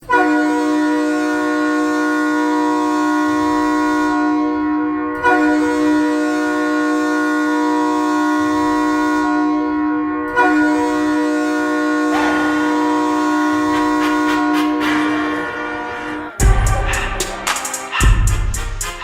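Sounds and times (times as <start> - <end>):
goal horn blast: 0.0 - 19.0.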